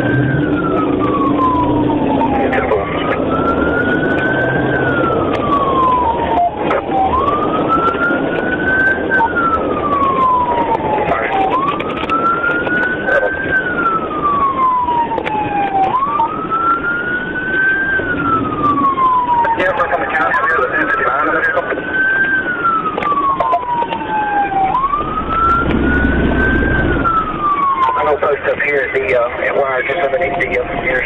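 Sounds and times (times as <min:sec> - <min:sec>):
police siren wailing: 0:00.0 - 0:31.0
road and engine noise: 0:00.0 - 0:31.0.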